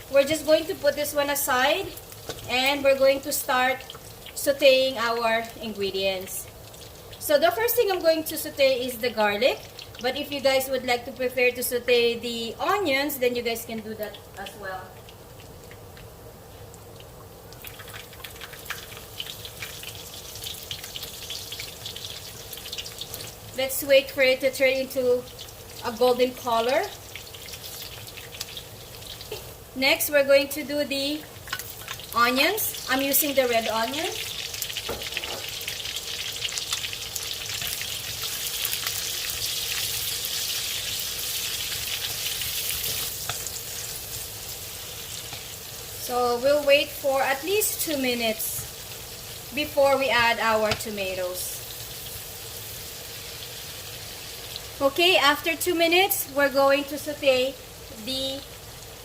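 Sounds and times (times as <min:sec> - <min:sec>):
garlic sizzling in fat: 0:00.0 - 0:59.0.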